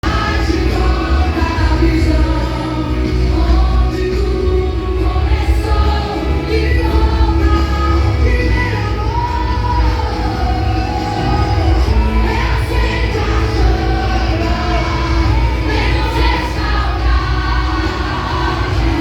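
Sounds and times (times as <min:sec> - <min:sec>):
gospel song with band: 0:00.0 - 0:19.0.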